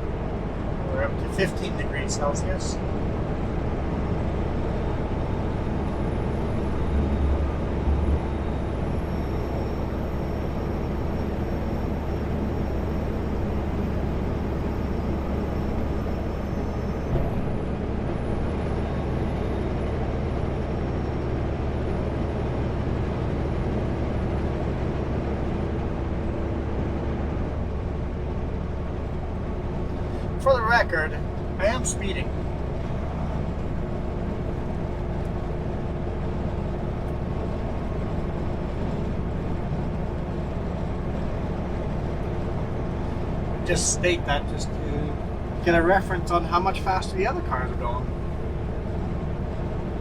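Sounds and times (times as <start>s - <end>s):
truck engine and road noise: 0.0s - 50.0s.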